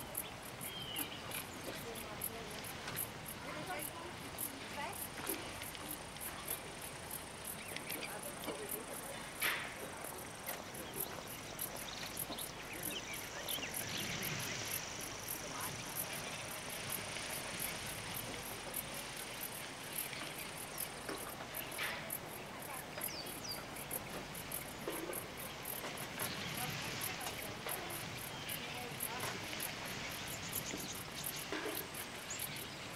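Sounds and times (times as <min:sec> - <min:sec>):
crickets chirping: 0:00.0 - 0:32.9
faint outdoor hiss: 0:00.0 - 0:32.9.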